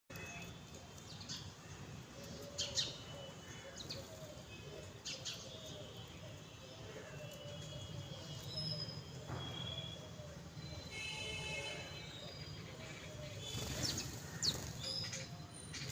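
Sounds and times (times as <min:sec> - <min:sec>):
sparrows chirping: 0:00.1 - 0:15.9.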